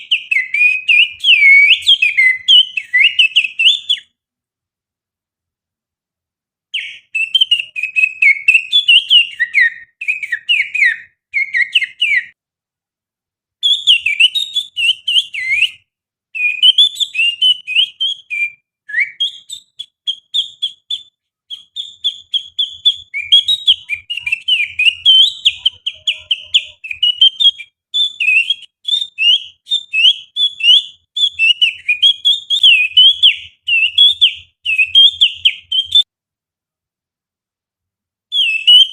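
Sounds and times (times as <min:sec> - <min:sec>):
finger whistling birdsong: 0:00.0 - 0:04.2, 0:06.8 - 0:12.4, 0:13.6 - 0:36.1, 0:38.3 - 0:38.9.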